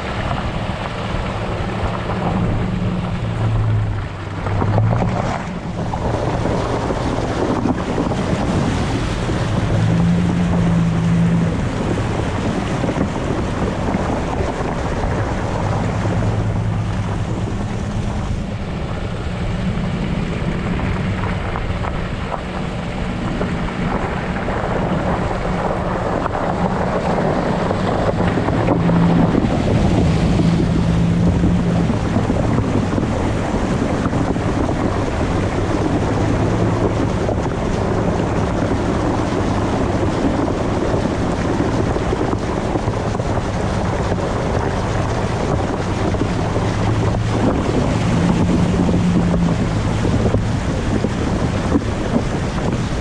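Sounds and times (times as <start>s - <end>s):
pickup engine revving: 0.0s - 53.0s
tyres splashing through water: 0.0s - 53.0s
wind buffeting microphone: 0.0s - 53.0s.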